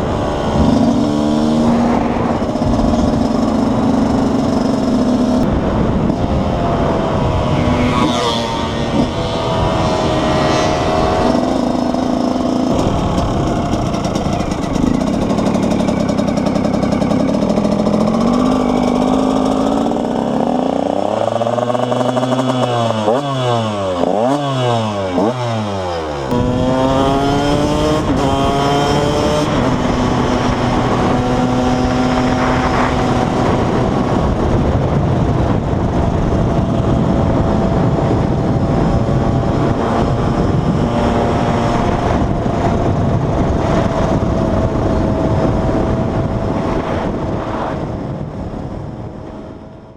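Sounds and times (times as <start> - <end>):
two-stroke motorcycle engine revving: 0.0 - 49.9.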